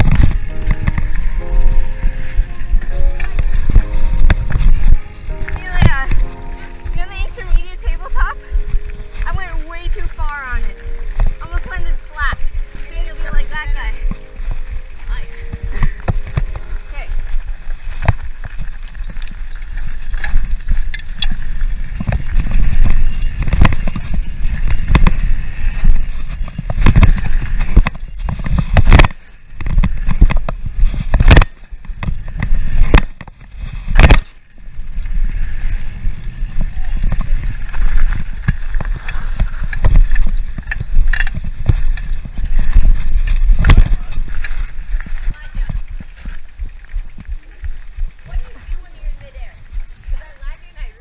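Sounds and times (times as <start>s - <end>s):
bike chain and frame rattling: 0.0s - 51.0s
bike tyres rolling on dirt: 0.0s - 51.0s
wind rumble on microphone: 0.0s - 51.0s.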